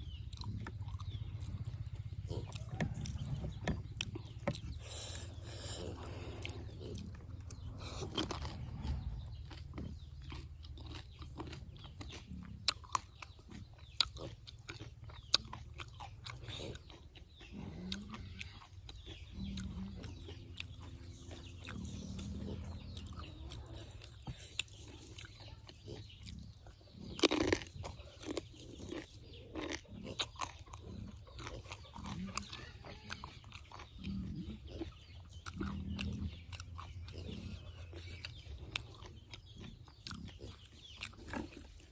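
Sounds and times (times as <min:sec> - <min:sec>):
crunching crisp shells: 0:00.2 - 0:41.9.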